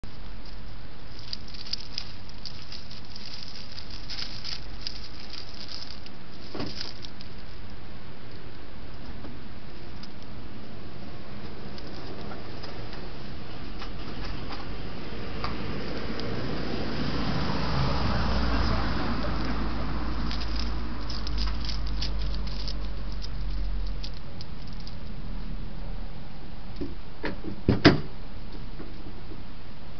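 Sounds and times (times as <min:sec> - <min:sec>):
crackly rustles in dry grass: 0:00.0 - 0:25.9.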